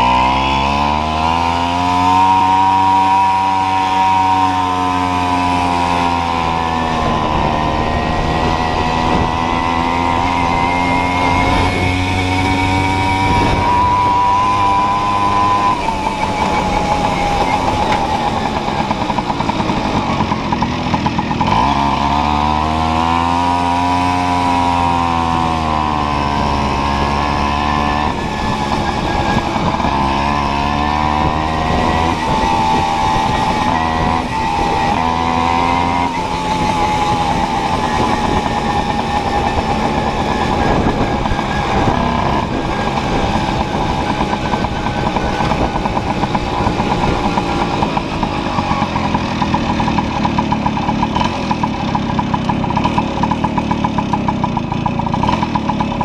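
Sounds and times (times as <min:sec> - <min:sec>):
moped engine running: 0:00.0 - 0:56.0.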